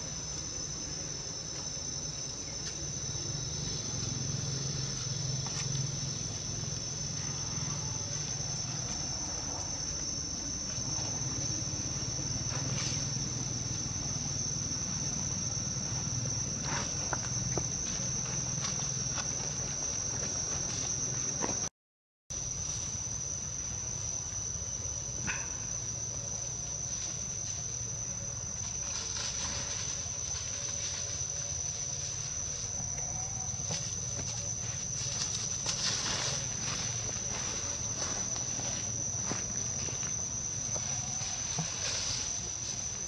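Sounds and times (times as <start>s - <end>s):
high-pitched insect drone: 0.0s - 21.7s, 22.4s - 43.0s.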